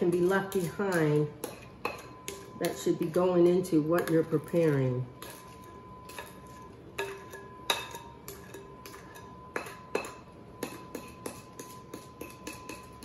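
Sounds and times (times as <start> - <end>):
spoon scraping glass bowl: 0.0 - 13.0.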